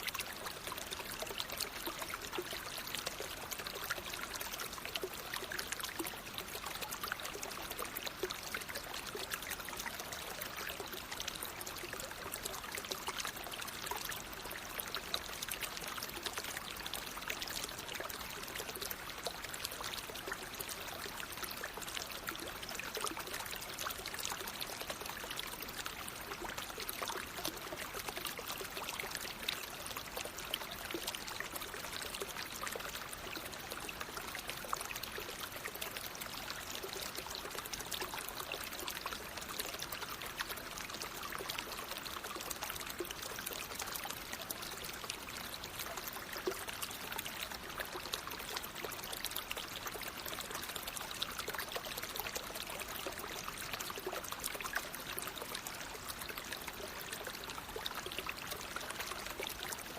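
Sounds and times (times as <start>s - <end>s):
water flowing in a stream: 0.0s - 59.9s.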